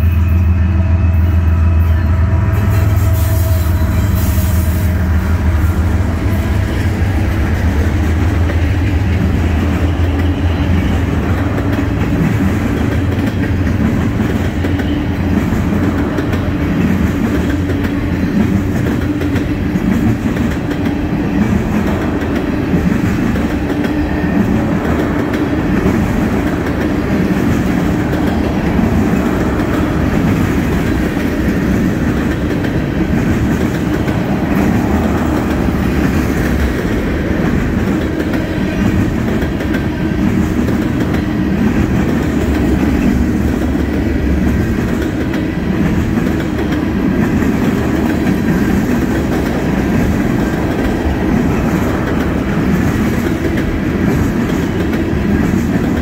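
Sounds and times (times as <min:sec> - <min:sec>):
train wheels rumbling on rails: 0:00.0 - 0:56.0
wheels clacking over rail joints: 0:06.2 - 0:56.0.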